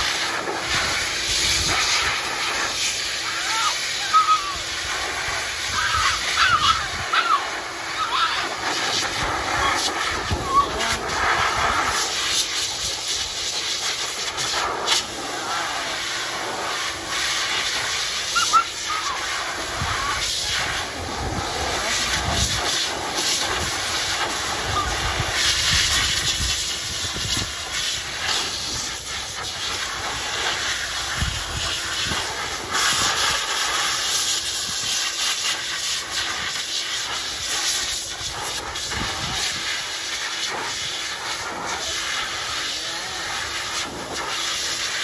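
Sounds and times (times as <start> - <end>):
dog dryer air rushing: 0.0 - 45.0.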